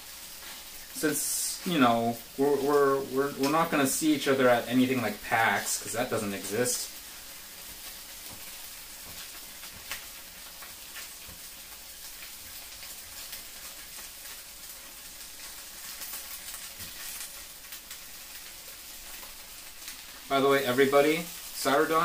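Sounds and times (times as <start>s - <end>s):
dumplings sizzling in oil: 0.0s - 22.0s.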